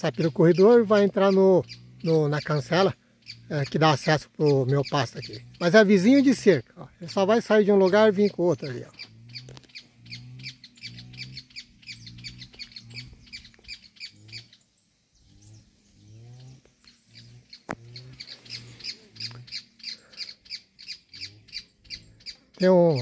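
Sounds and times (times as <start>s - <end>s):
bird squawking: 0.0s - 23.0s.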